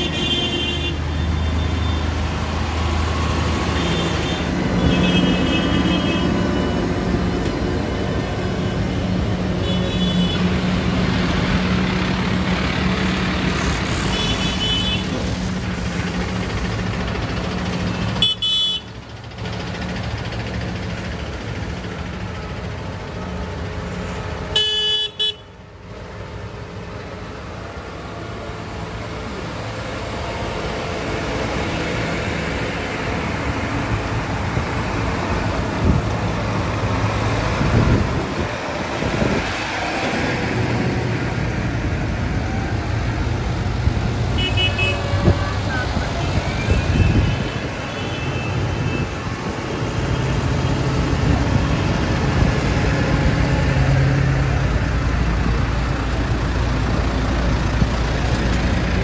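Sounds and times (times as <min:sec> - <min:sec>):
tractor diesel engines: 0:00.0 - 0:59.0.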